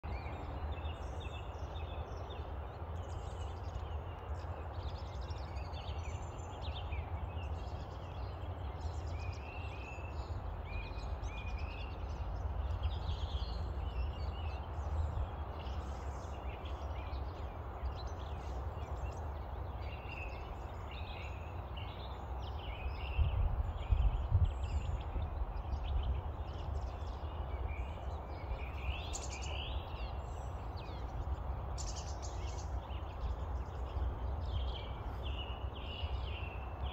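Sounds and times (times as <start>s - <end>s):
birds chirping: 0.0s - 36.9s
wind rumble on microphone: 0.0s - 36.9s.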